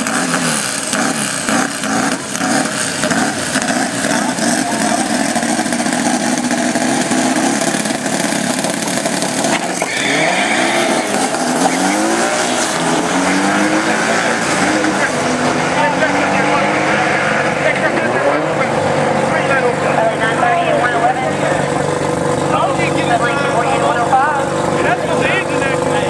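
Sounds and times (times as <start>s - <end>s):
drag racing engines accelerating: 0.0s - 26.0s.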